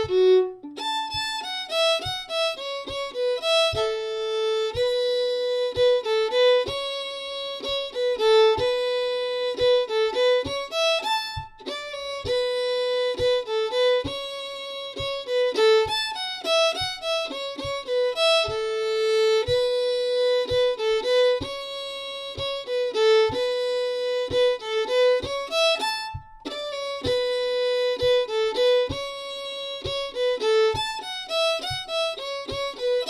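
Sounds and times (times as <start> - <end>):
fiddle playing a lively jig: 0.0 - 33.0
soft low thumps: 0.0 - 33.0.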